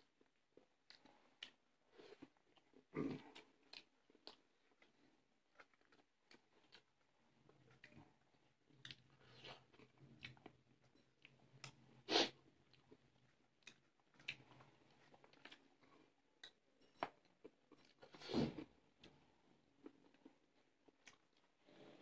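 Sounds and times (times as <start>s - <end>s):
people chewing: 0.0s - 22.0s.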